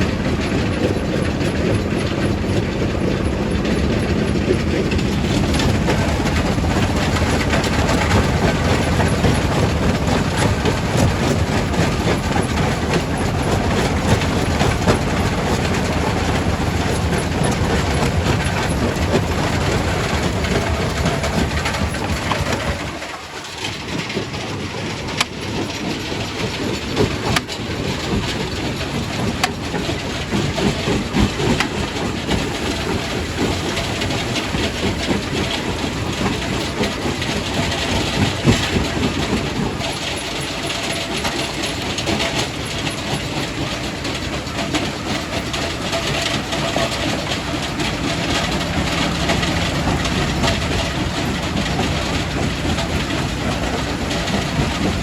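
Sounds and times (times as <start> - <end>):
rock crusher rumble and clatter: 0.0 - 55.0.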